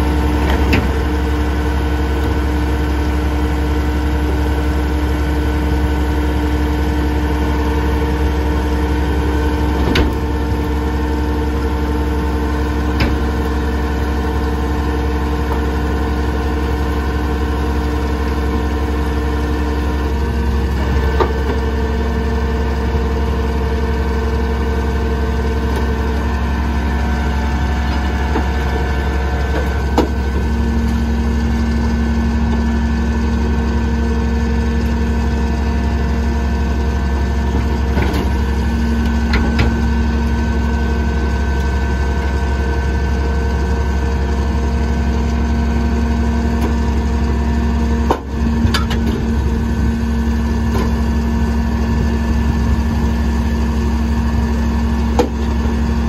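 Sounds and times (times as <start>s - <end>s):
garbage truck running: 0.0s - 56.0s.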